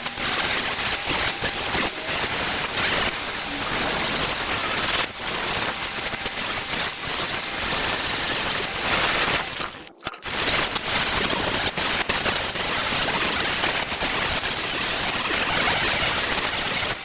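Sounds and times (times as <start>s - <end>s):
angle grinder grinding sheet metal: 0.0s - 17.0s.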